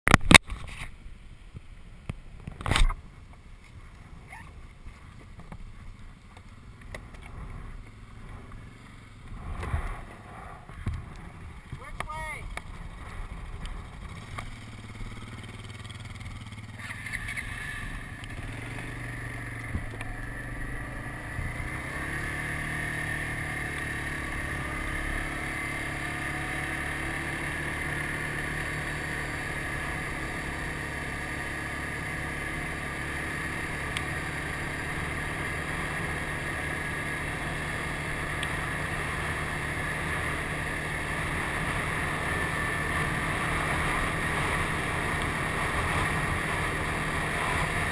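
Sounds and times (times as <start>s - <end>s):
atv engine running: 0.1s - 47.9s
tyre noise on dirt road: 0.1s - 47.9s.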